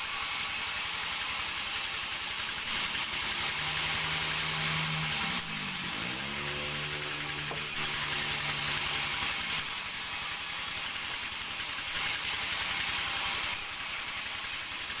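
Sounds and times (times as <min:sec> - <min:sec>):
continuous mechanical rattle: 0:00.0 - 0:15.0
engine running steadily: 0:00.0 - 0:15.0.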